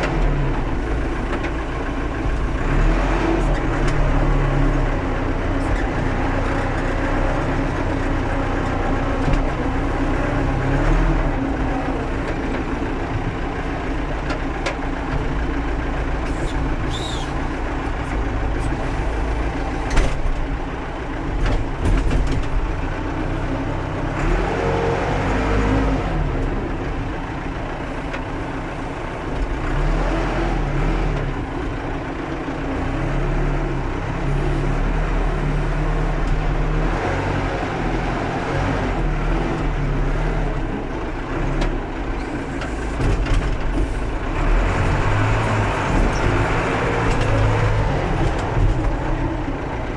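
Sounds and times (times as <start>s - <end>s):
backhoe engine under varying load: 0.0s - 49.9s.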